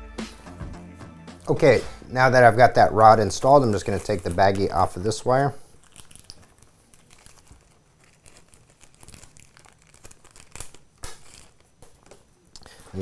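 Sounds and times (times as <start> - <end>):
plastic bag crinkling and tearing: 1.4 - 13.0.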